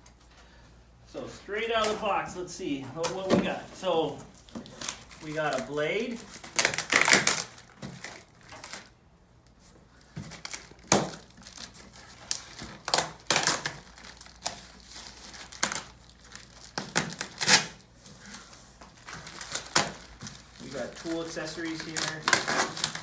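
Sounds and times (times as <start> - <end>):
packaging crinkling and rustling: 3.0 - 23.0.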